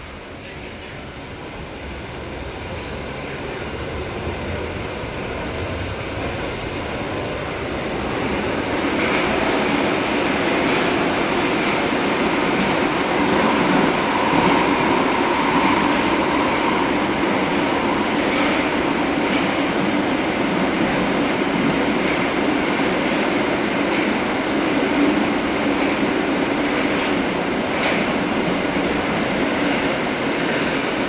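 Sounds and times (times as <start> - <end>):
metro train rolling: 0.0 - 31.0
train whine: 0.0 - 31.0.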